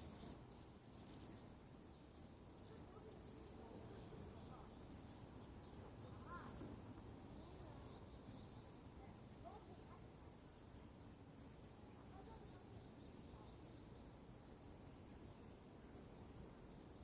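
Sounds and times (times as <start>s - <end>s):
faint steady hiss: 0.0s - 17.0s
small birds chirping: 0.0s - 17.0s.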